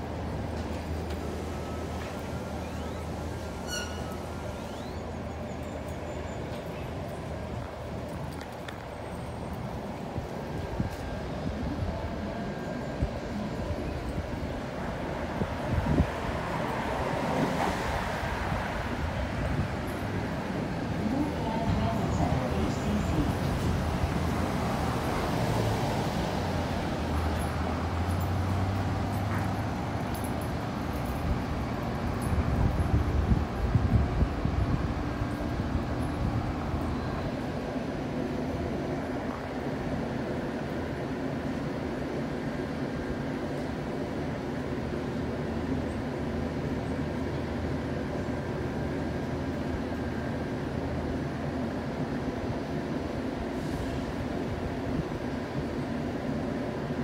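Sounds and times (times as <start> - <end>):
light-rail train humming: 0.0 - 57.0
rumble of vehicles and machinery: 0.0 - 57.0
street traffic noise: 0.0 - 57.0.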